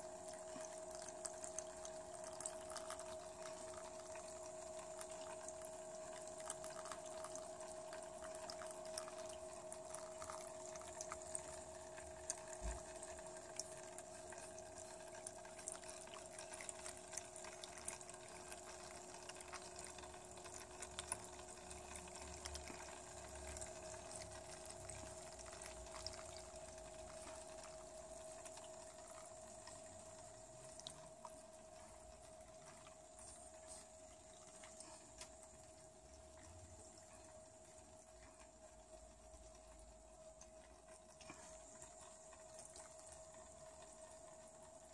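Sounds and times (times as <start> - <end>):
steady hum: 0.0 - 44.9
water trickling and dripping: 0.0 - 44.9.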